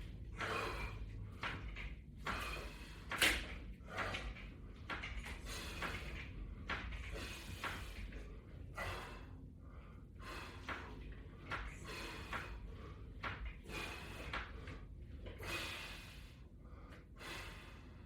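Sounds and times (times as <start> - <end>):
person breathing hard: 0.0 - 18.0.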